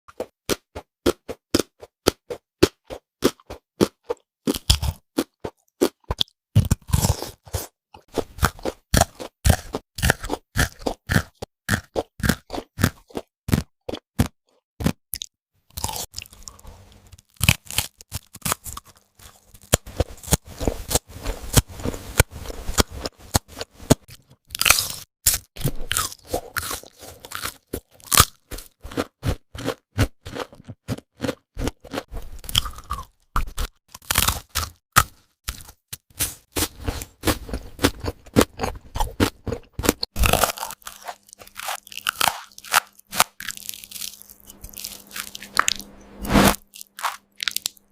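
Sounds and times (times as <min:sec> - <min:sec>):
crunching fried chicken: 0:03.2 - 0:47.9.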